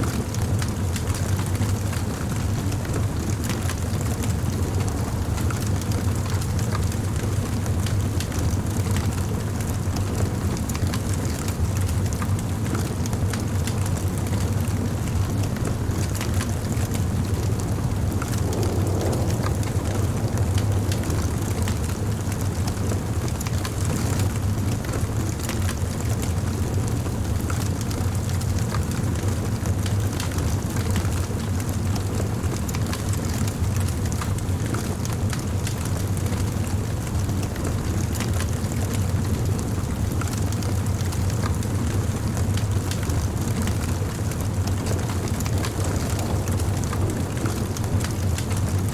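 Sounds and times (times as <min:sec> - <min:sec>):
fire crackling and popping: 0:00.0 - 0:48.9
fire flames rumbling: 0:00.0 - 0:48.9.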